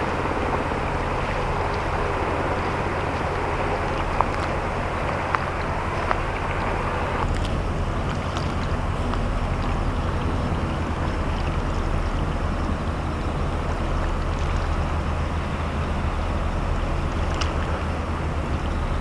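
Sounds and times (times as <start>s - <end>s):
diesel engines droning: 0.0s - 19.0s.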